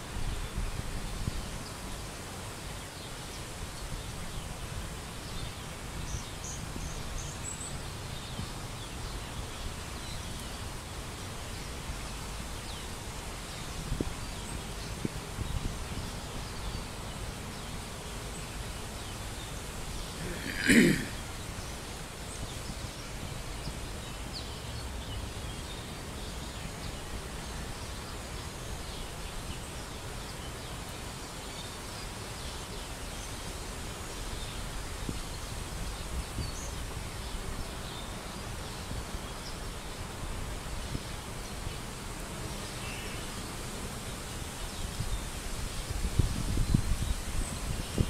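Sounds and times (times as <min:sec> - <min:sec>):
constant wash of noise: 0:00.0 - 0:48.0.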